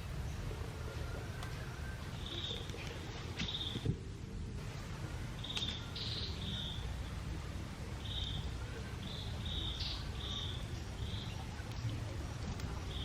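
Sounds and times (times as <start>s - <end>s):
bird chirping: 0.0s - 3.9s, 5.1s - 7.3s, 7.9s - 13.0s.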